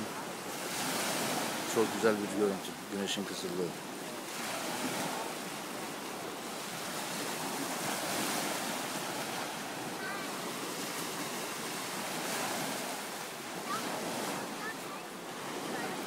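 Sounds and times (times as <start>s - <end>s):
small waves washing onto beach: 0.0s - 16.0s.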